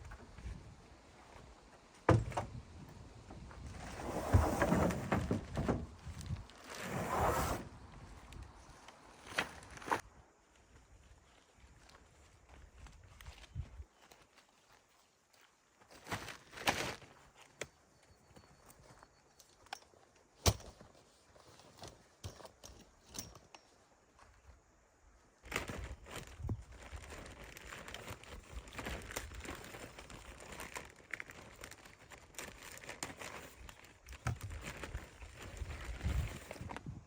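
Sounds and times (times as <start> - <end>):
crinkling and rustling: 0.0 - 24.4, 25.4 - 37.0.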